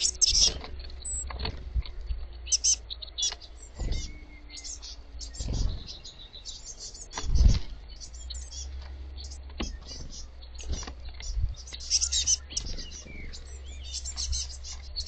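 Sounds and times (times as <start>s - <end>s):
low rumble: 0.0s - 14.6s
young birds chirping: 0.0s - 15.0s.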